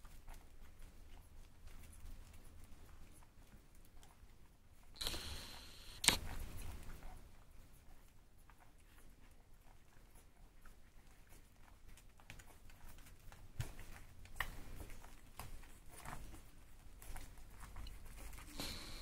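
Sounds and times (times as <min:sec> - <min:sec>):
puppies suckling: 0:00.0 - 0:19.0.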